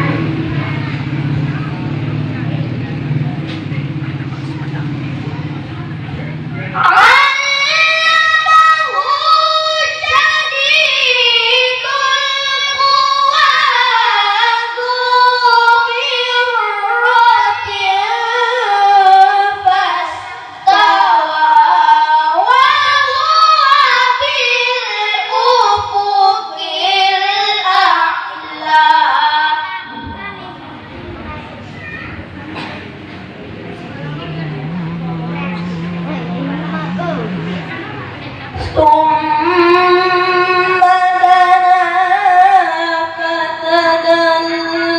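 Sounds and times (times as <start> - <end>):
boy reciting melodically: 0.0 - 44.9.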